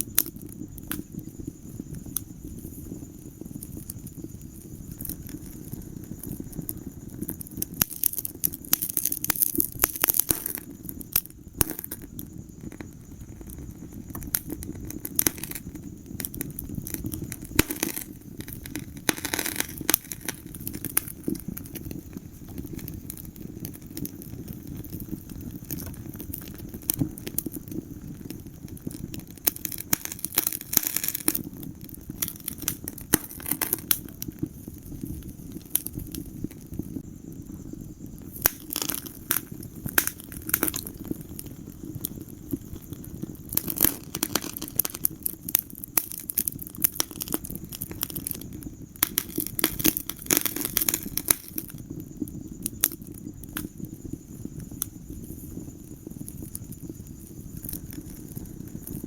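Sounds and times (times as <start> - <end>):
fire hissing: 0.0 - 59.0
wood fire crackling: 0.0 - 59.0.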